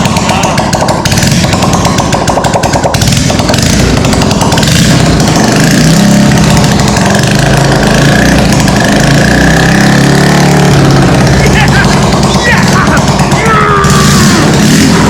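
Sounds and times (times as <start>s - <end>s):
small motorcycle engine buzzing: 0.0s - 15.0s.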